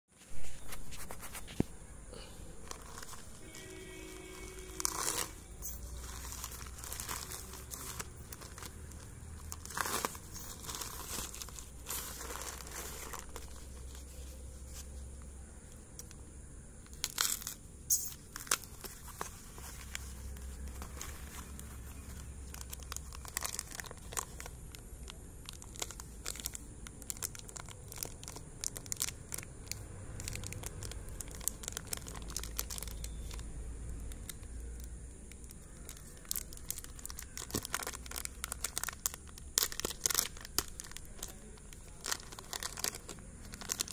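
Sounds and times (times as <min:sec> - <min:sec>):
plastic wrapping crinkling: 0:00.3 - 0:43.9
plastic mailer ripping: 0:02.6 - 0:14.7, 0:18.2 - 0:43.9.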